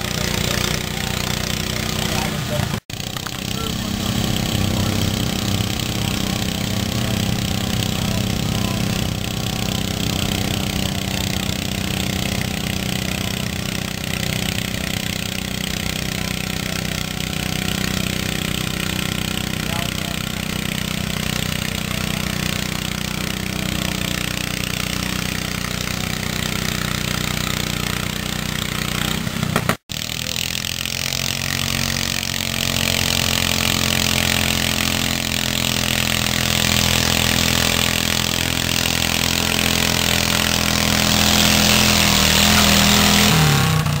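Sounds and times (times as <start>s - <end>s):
garden tractor engines running: 0.0s - 44.0s
tractor engine under heavy load: 0.0s - 44.0s.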